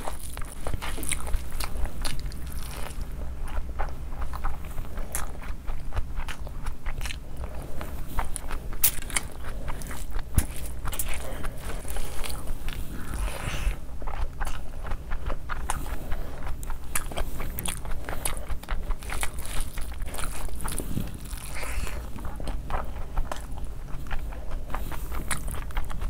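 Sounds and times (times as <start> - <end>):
wet chewing and mouth smacks: 0.0 - 26.0.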